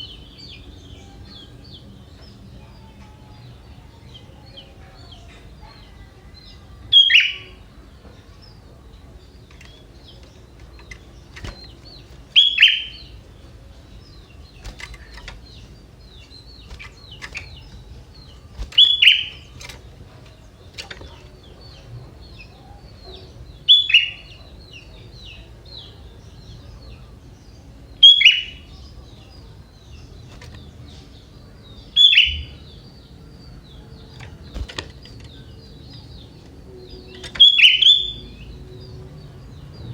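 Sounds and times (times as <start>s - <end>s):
faint high chirping: 0.0s - 39.9s.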